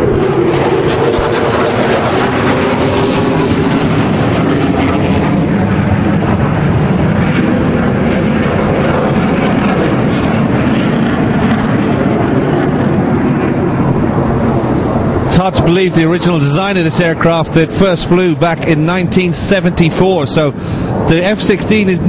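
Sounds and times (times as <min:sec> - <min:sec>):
jet flying overhead: 0:00.0 - 0:22.0.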